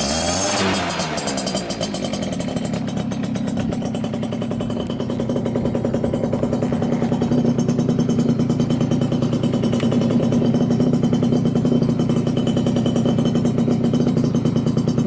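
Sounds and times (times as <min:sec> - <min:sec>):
scooter engine fast idle: 0:00.0 - 0:15.0.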